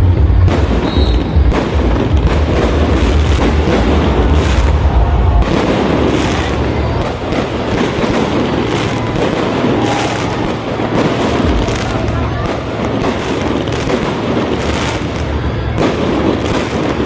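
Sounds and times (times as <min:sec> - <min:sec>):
fireworks booming and cracking: 0:00.0 - 0:17.0.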